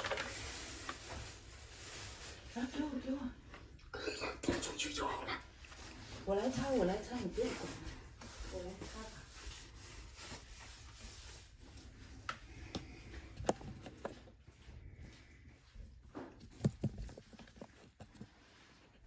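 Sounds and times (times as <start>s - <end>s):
hands handling and wiping things: 0.0s - 3.8s, 5.6s - 19.0s.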